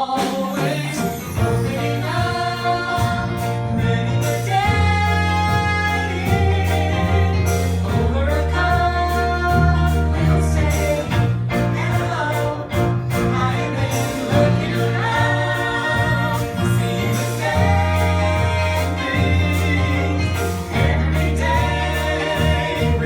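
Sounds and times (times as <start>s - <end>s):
instrumental accompaniment: 0.0s - 23.0s
musical theatre singing: 0.0s - 23.0s.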